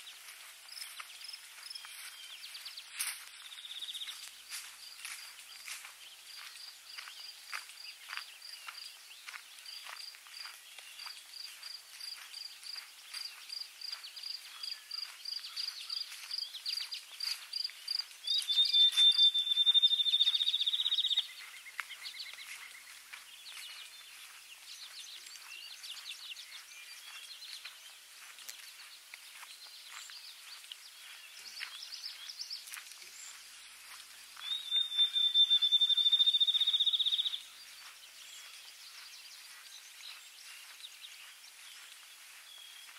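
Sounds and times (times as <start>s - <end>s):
songbird high chirps: 0.0s - 42.9s.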